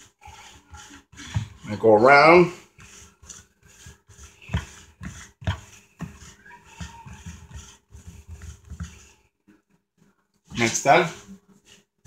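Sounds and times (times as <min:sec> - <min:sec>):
fork scraping plastic bowl: 0:00.0 - 0:09.3, 0:10.5 - 0:11.8.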